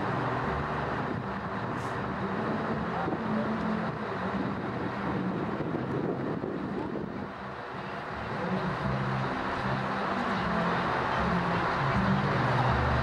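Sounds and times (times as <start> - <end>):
broad background noise: 0.0 - 13.0
truck engine running: 0.0 - 13.0.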